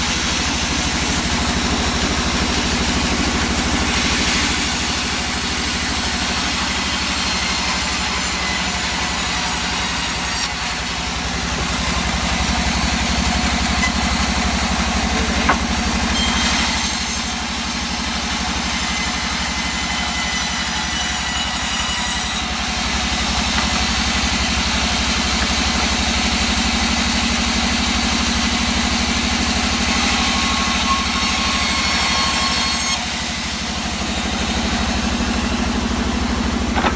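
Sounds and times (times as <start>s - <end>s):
engine-powered saw cutting wood: 0.0s - 36.9s.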